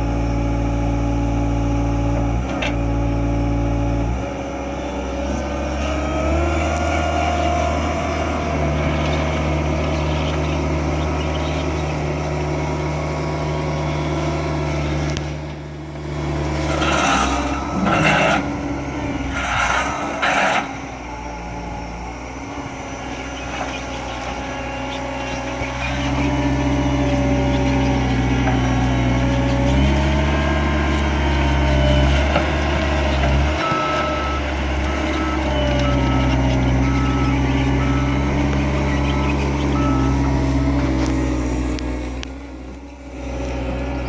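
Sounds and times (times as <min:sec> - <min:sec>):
loader engine running: 0:00.0 - 0:44.0.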